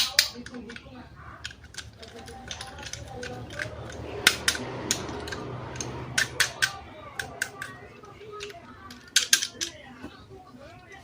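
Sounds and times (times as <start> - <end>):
plastic toys clicking and snapping: 0.0 - 10.0.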